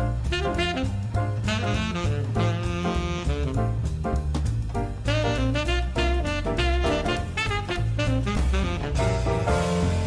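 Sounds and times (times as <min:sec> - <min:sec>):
drum kit beat: 0:00.0 - 0:10.0
jazz saxophone: 0:00.0 - 0:10.0.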